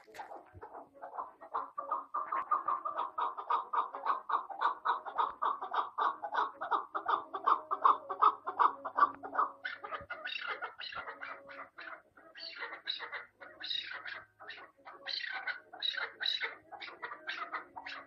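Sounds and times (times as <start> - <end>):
partridge calling: 0.0 - 18.0.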